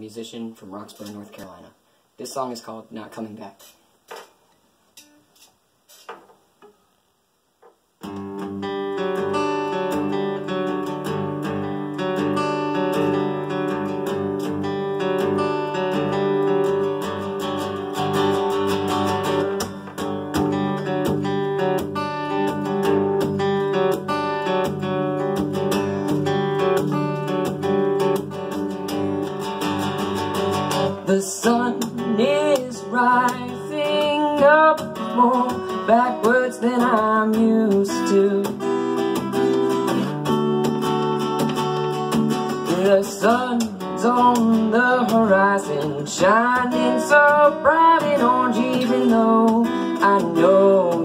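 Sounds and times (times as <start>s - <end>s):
acoustic guitar strumming: 8.0s - 51.0s.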